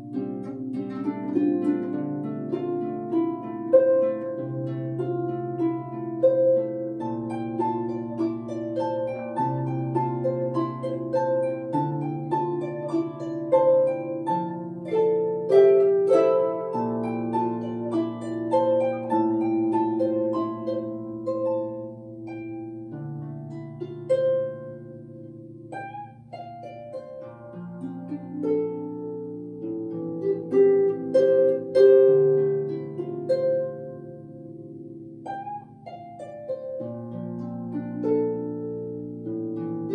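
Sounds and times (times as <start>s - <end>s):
solo harp: 0.0s - 39.9s.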